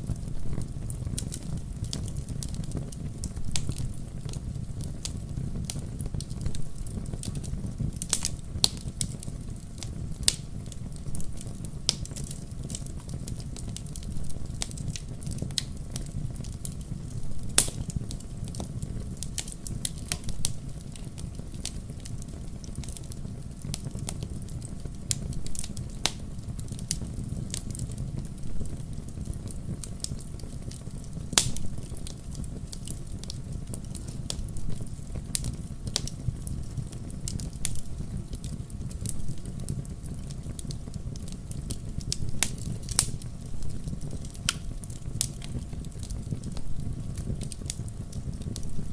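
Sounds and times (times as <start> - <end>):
low fire rumble: 0.0 - 48.9
wood fire crackling: 0.0 - 48.9.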